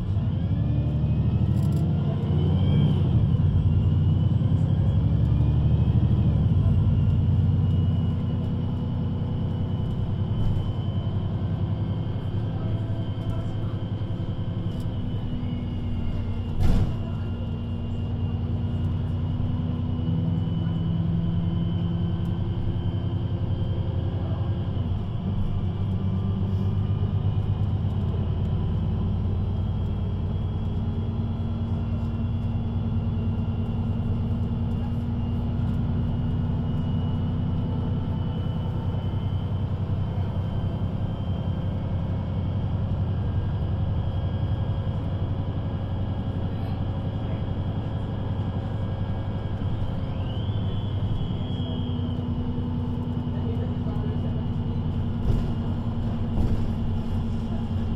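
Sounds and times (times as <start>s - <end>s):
bus engine hum and rumble: 0.0s - 57.9s.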